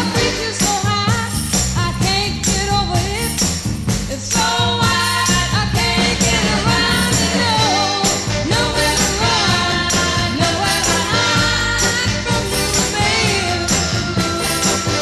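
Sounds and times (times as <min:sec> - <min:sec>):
song with steady beat: 0:00.0 - 0:15.0.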